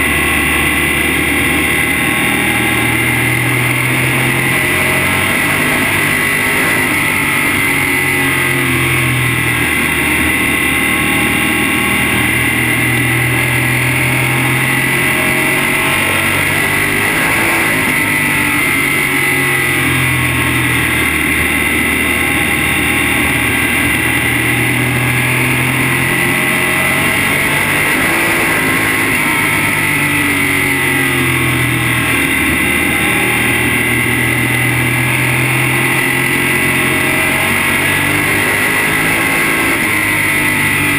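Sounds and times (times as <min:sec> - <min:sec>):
race car engine at speed: 0:00.0 - 0:40.9.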